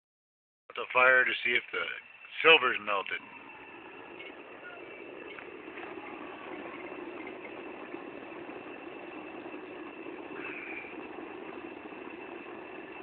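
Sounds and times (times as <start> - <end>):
furnace rushing drone: 2.4 - 13.0.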